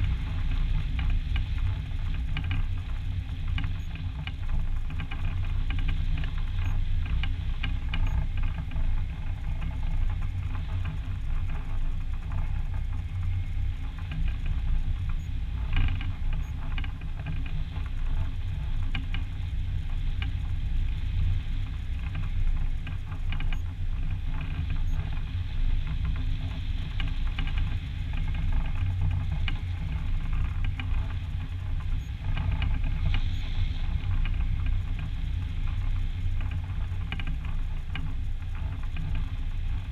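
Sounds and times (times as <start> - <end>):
faint ticks: 0.0 - 39.9.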